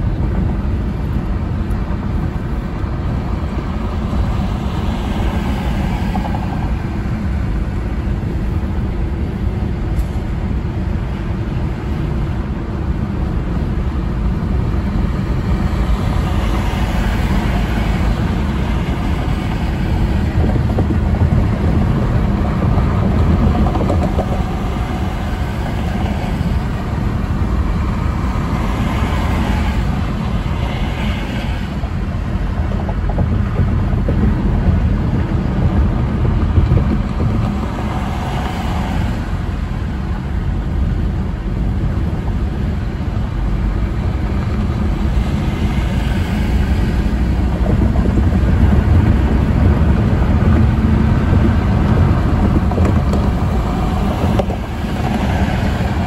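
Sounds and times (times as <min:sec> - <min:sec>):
car road and tyre noise: 0:00.0 - 0:56.0.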